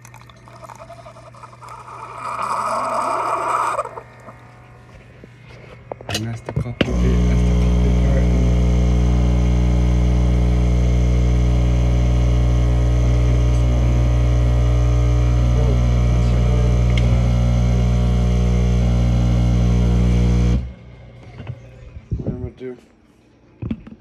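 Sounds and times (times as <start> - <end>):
loud electrical hum: 0.0 - 23.5.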